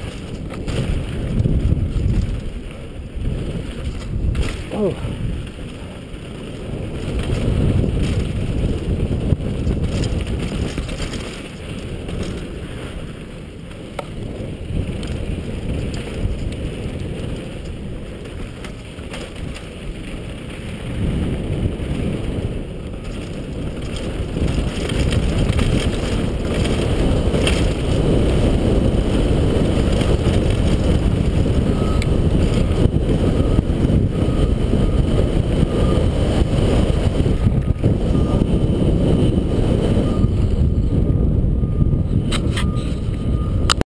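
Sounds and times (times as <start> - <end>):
wind buffeting microphone: 0.0 - 43.8.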